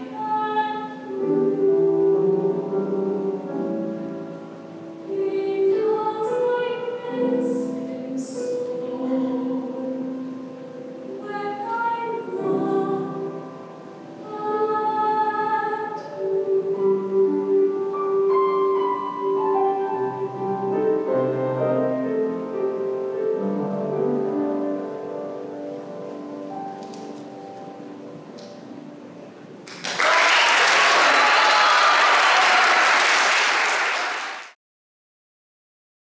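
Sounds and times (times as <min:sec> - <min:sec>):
grand piano chords: 0:00.0 - 0:29.7.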